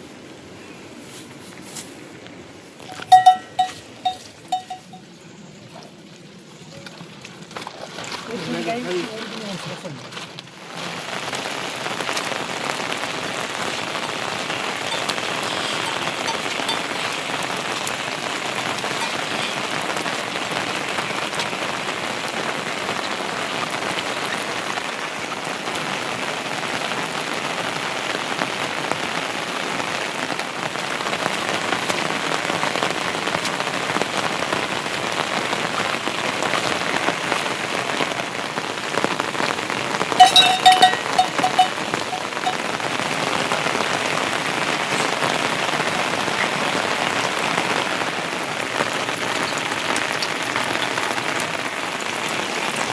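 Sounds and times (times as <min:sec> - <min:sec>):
heavy rain falling: 0:08.2 - 0:52.9.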